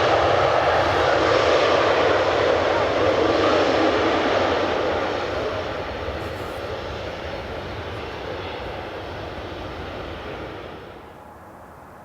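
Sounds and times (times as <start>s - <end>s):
jet airliner engine rush: 0.0s - 12.0s.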